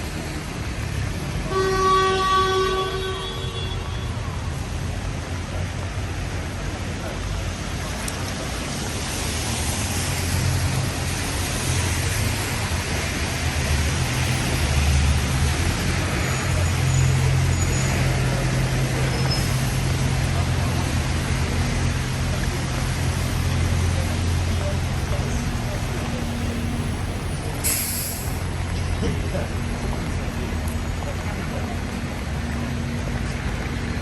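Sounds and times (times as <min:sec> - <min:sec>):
constant hiss of wet road: 0:00.0 - 0:34.0
vehicle engine rumbling: 0:02.2 - 0:34.0.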